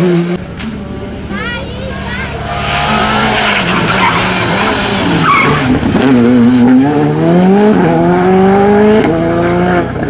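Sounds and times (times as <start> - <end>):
rally car engine accelerating: 0.0 - 10.0.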